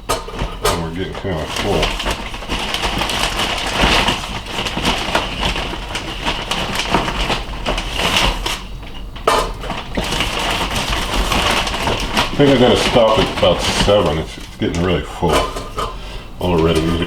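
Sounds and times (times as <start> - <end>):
frozen meat knocking on oven rack: 0.0 - 17.0
plastic bag crinkling: 0.0 - 17.0.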